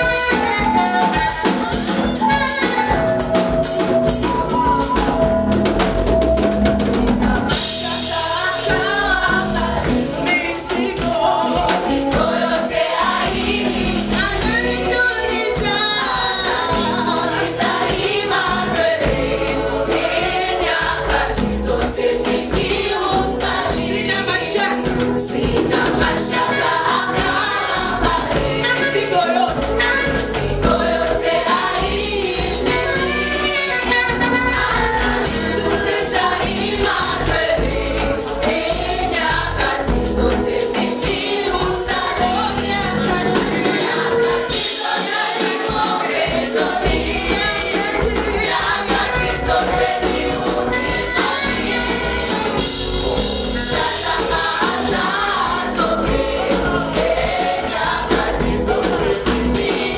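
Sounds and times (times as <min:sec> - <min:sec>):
drums beat: 0:00.0 - 0:59.9
group singing gospel: 0:00.0 - 0:59.9.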